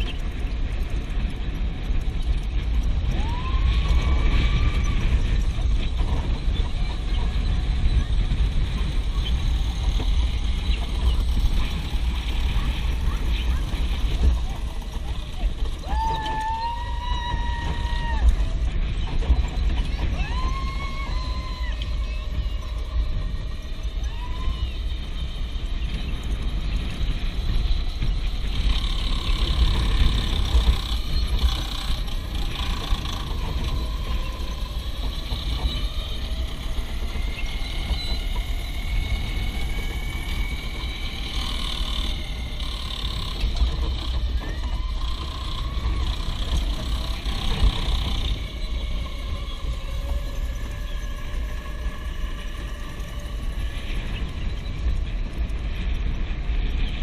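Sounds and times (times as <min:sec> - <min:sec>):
go-kart engine running: 0:00.0 - 0:57.0
heavy low rumble: 0:00.0 - 0:57.0.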